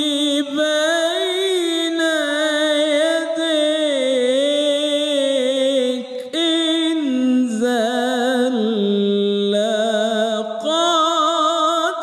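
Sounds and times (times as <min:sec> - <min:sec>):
man singing devotional chant: 0:00.0 - 0:12.0.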